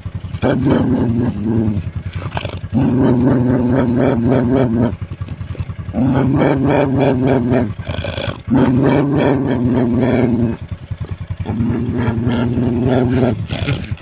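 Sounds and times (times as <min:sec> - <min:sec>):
dog growling: 0:00.4 - 0:14.0.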